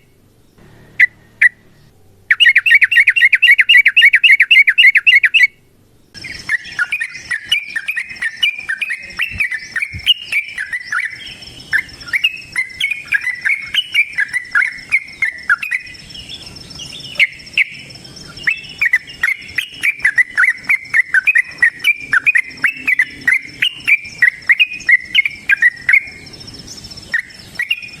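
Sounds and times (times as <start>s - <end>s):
steady high buzz: 0.0s - 3.6s, 5.6s - 28.0s
bulbul chattering song: 0.0s - 28.0s.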